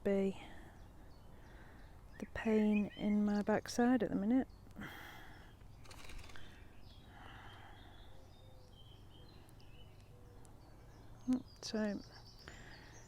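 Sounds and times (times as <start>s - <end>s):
faint distant birds chirping: 0.0s - 13.0s.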